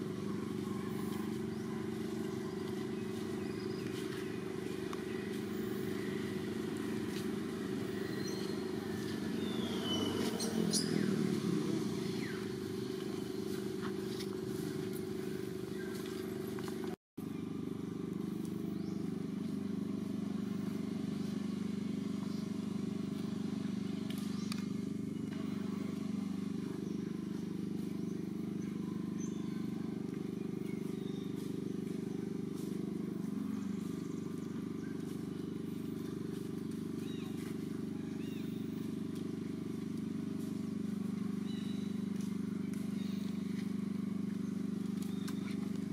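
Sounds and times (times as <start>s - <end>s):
motor engine droning: 0.0s - 45.9s.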